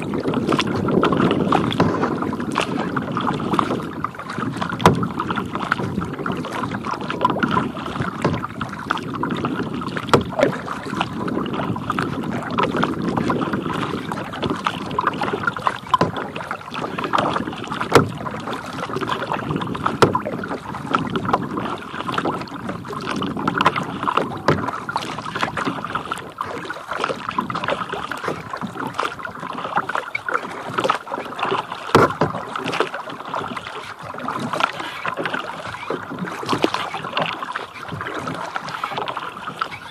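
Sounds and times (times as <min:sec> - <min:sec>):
water lapping against kayak hull: 0:00.0 - 0:39.9.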